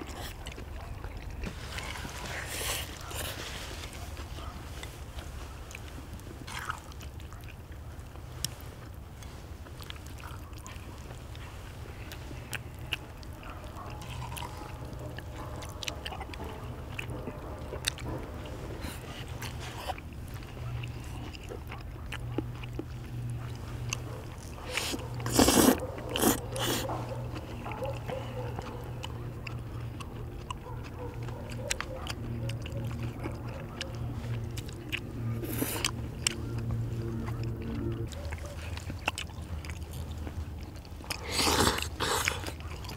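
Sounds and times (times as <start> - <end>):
people chewing and slurping: 0.0 - 42.9
steady low hum: 0.0 - 42.9.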